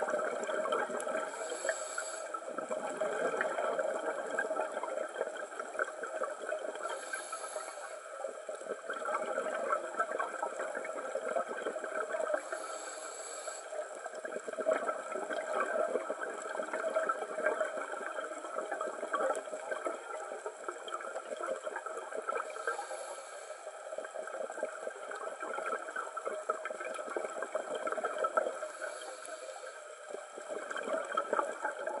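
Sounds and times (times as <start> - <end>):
regulator exhale bubbles: 0.0 - 32.0
underwater crackling hiss: 0.0 - 32.0.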